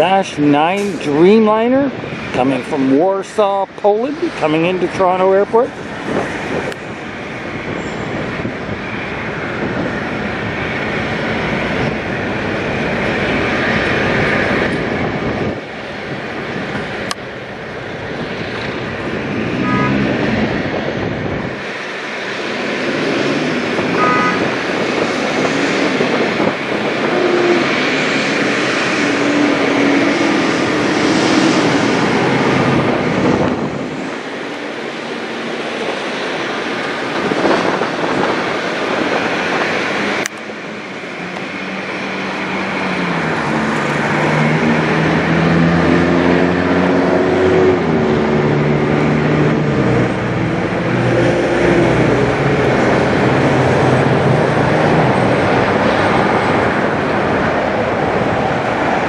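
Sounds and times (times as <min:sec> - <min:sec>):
jet engines drone: 0:00.0 - 0:59.0.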